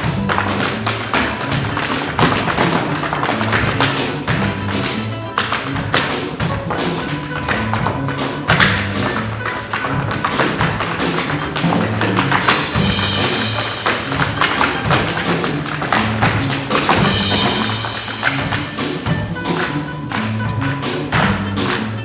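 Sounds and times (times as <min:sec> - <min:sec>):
repeating bass line: 0:00.0 - 0:22.0
sharp percussive taps: 0:00.0 - 0:22.0.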